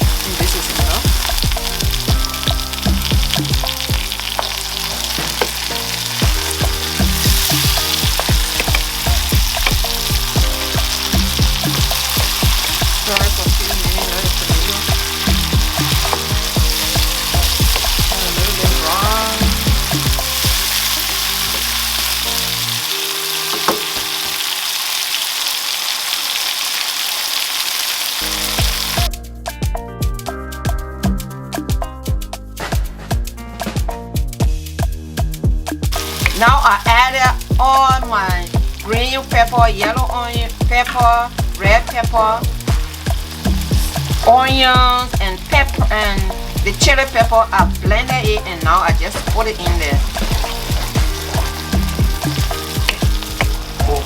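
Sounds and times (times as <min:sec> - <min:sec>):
food sizzling in hot oil: 0:00.0 - 0:29.2, 0:35.9 - 0:54.0.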